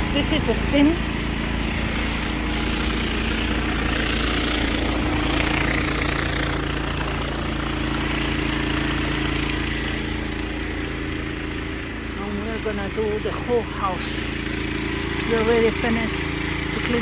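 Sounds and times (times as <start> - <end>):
pressure washer engine hum: 0.0 - 17.0.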